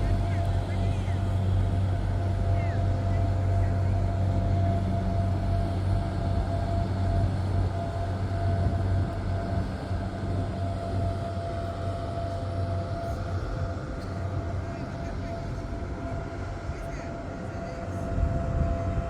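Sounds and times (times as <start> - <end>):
faint steady whine: 0.0 - 19.0
low mechanical hum: 0.0 - 19.0.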